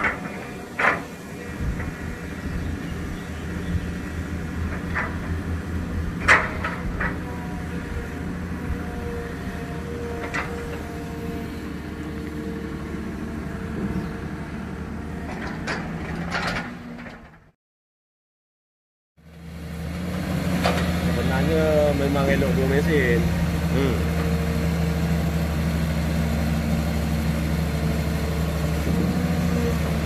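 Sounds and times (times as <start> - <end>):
diesel engine running under load: 0.0 - 17.6, 19.2 - 30.0.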